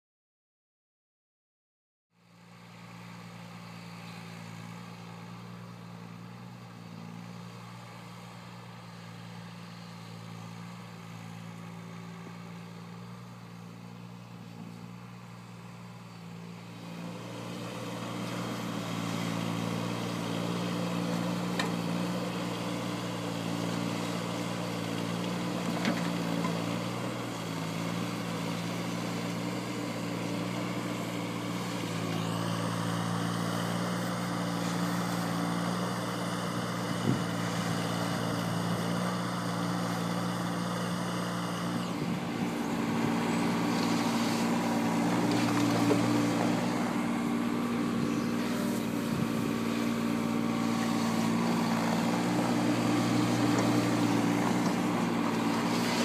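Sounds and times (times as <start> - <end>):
excavator diesel engine running: 2.2 - 56.0.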